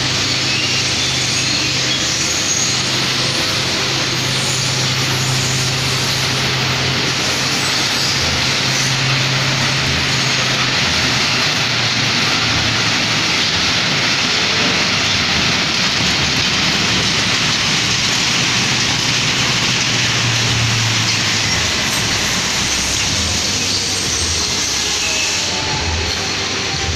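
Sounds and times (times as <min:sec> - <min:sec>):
ride cars rolling on track: 0:00.0 - 0:26.9.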